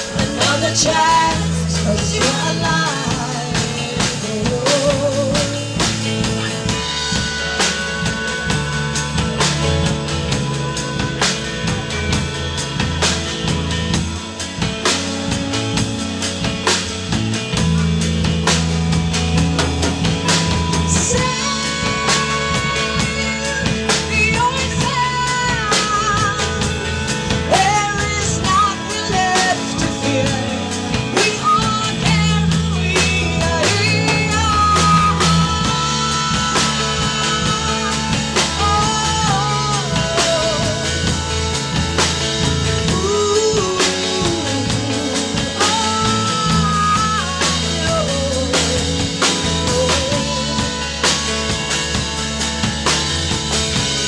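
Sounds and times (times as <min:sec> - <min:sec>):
live rock band playing: 0:00.0 - 0:54.0
sliding melodic lead line: 0:00.0 - 0:54.0
sustained bass notes: 0:00.0 - 0:54.0.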